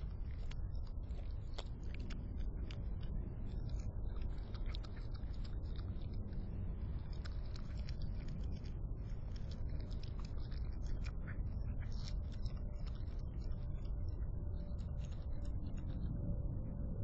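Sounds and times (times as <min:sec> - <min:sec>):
low background noise: 0:00.0 - 0:17.0
raccoon chewing: 0:00.0 - 0:17.0.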